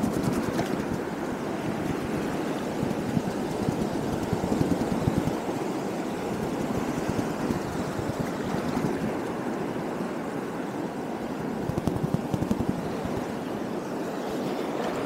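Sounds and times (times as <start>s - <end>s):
choppy sea wash: 0.0s - 15.0s
wind buffeting microphone: 0.0s - 15.0s.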